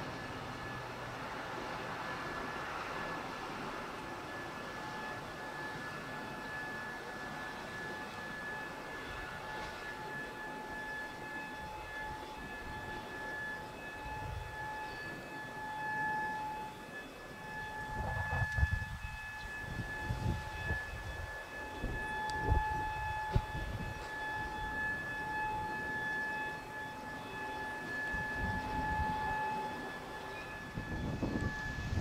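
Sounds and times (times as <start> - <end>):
siren-like tone: 0.0 - 32.0.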